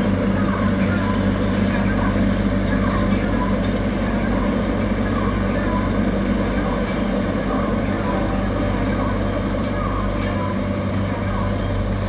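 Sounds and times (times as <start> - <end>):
heavy diesel machinery drone: 0.0 - 12.0.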